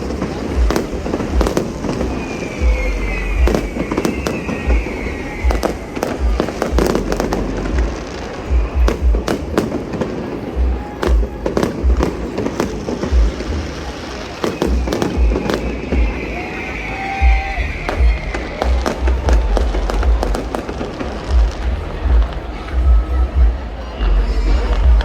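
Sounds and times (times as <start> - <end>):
fireworks booms and cracks: 0.0 - 23.9
music playing: 0.0 - 25.0.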